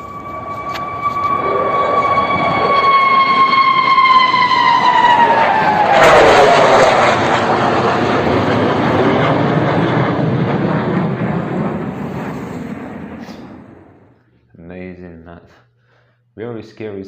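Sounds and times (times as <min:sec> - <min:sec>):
fighter jet flying past: 0:00.0 - 0:14.2.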